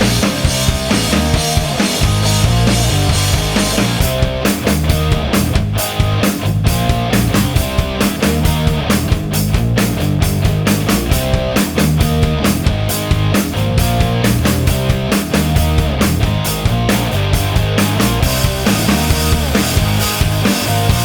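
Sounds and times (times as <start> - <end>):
rock music: 0.0 - 21.0.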